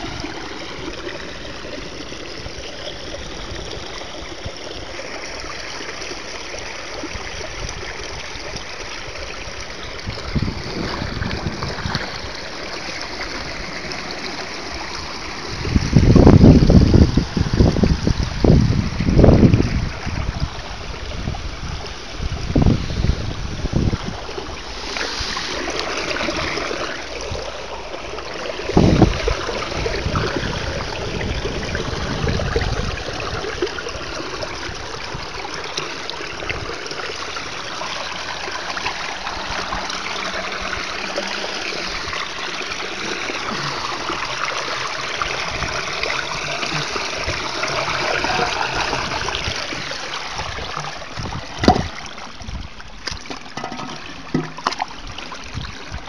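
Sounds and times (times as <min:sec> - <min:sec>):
water rushing through drain grate: 0:00.0 - 0:56.0.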